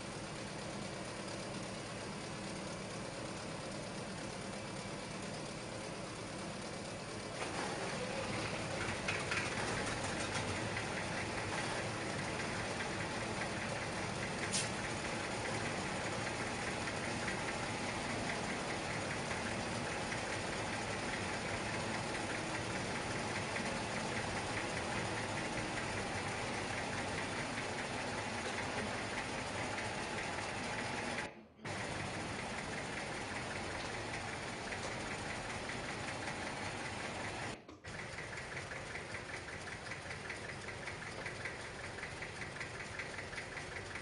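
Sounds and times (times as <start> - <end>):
tractor engines idling: 0.0 - 44.0.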